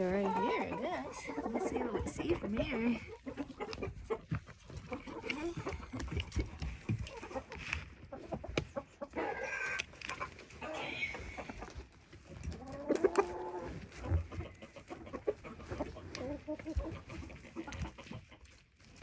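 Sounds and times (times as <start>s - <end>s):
chickens clucking and calling: 0.0s - 19.0s.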